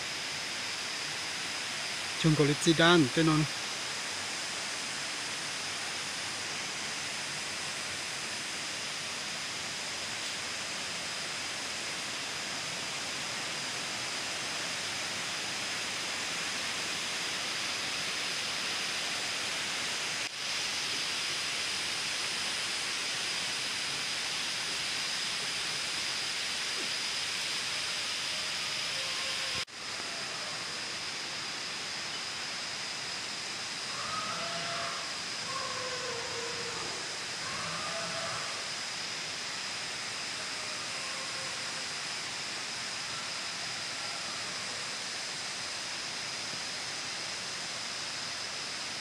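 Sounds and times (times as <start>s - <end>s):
insect chorus hiss: 0.0s - 49.0s.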